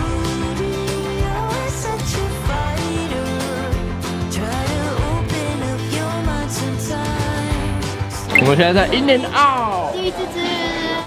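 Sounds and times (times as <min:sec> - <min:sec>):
pop song with singing: 0:00.0 - 0:09.1.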